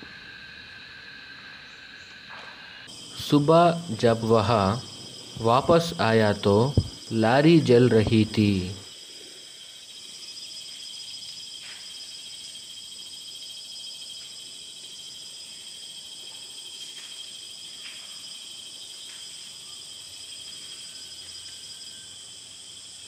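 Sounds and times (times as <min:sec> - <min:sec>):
shrill insect chorus: 0:00.0 - 0:23.0.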